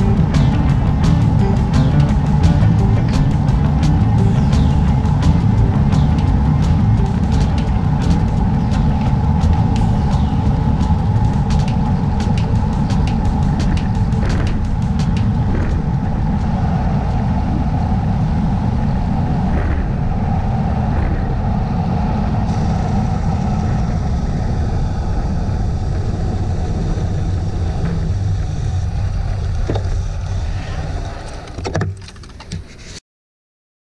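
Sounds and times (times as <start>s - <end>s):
wind buffeting microphone: 0.0s - 31.7s.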